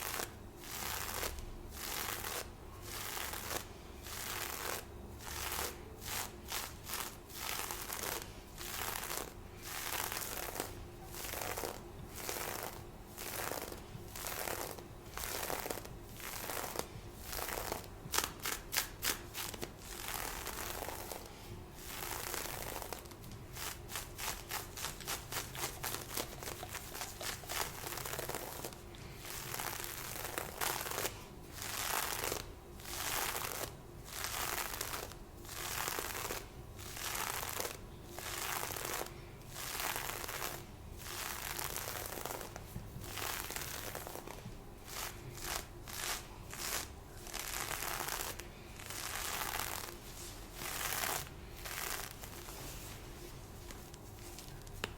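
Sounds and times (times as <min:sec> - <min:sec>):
stockings rustling when rubbed: 0:00.0 - 0:54.9.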